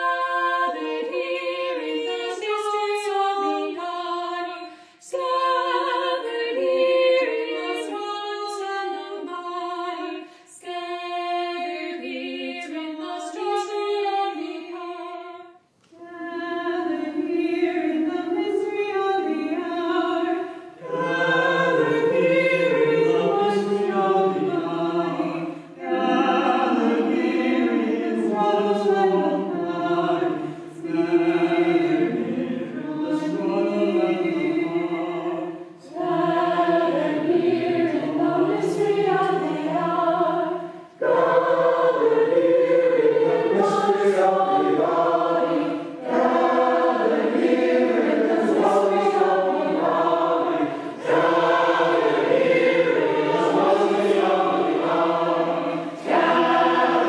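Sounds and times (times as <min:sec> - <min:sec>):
unaccompanied choral singing: 0:00.0 - 0:57.0.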